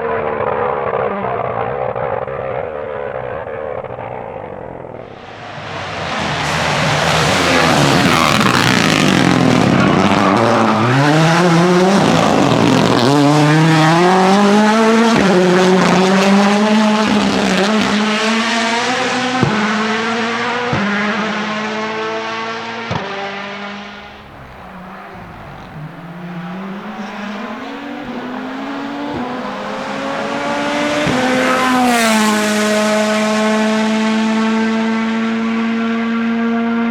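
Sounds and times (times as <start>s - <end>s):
car engine pulling through gears: 0.0s - 36.9s.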